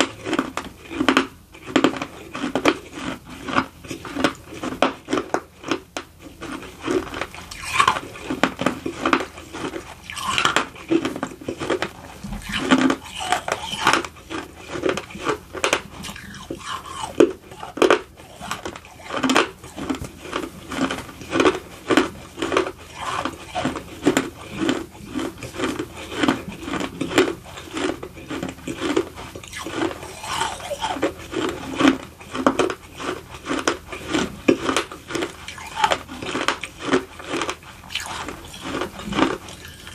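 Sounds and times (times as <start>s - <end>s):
crisp crunching chews: 0.0s - 39.9s.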